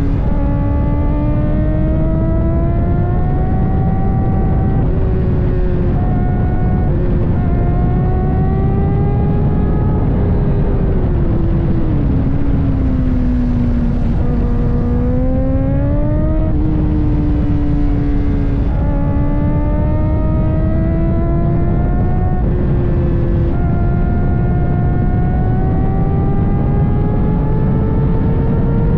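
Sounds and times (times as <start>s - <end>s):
motorcycle engine revving: 0.0s - 28.9s
wind rumble: 0.0s - 28.9s.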